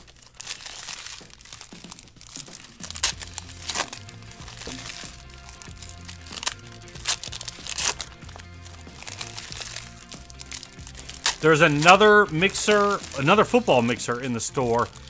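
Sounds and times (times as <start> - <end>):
cards being shuffled: 0.0 - 15.0
foil wrapper crinkling: 0.0 - 15.0
background music with bass: 2.8 - 15.0.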